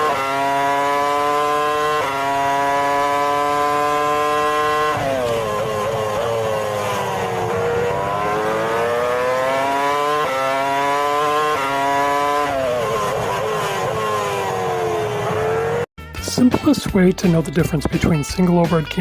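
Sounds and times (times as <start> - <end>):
vehicle engine revving: 0.0 - 15.9.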